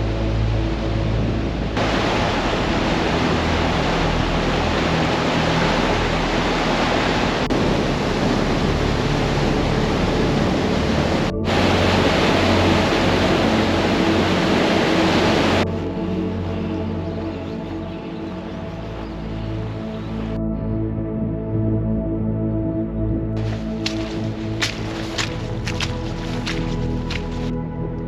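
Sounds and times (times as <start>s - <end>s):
rushing water: 0.0s - 20.4s, 23.4s - 27.6s
quiet background music: 0.0s - 28.0s.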